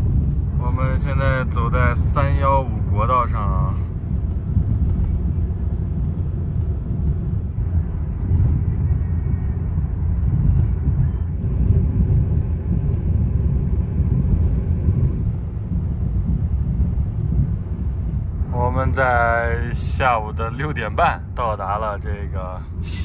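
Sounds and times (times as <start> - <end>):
car driving on highway: 0.0 - 23.0.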